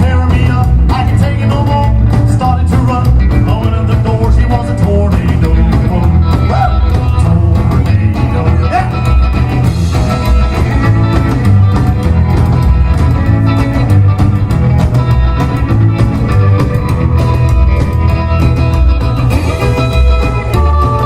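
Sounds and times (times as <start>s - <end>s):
live rock band playing: 0.0s - 21.0s
steady drum beat: 0.0s - 21.0s.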